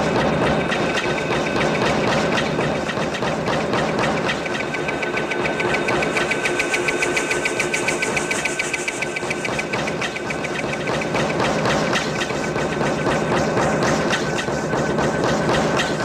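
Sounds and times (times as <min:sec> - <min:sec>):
machine clattering: 0:00.0 - 0:16.0
machine whine: 0:00.0 - 0:16.0.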